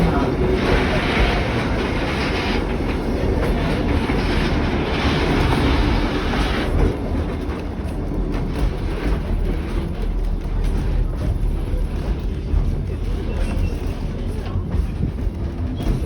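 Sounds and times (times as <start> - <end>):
train rumbling on track: 0.0 - 16.0
wheels clicking over rails: 0.0 - 16.0.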